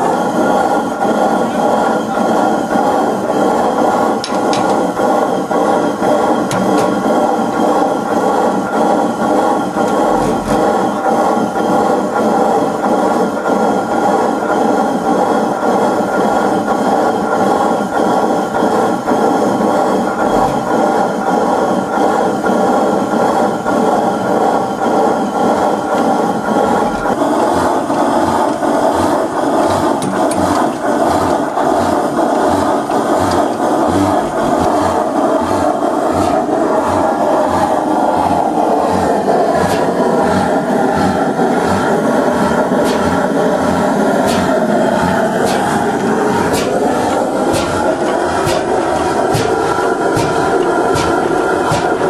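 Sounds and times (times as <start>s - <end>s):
stationary engine clatter: 0.0s - 52.0s.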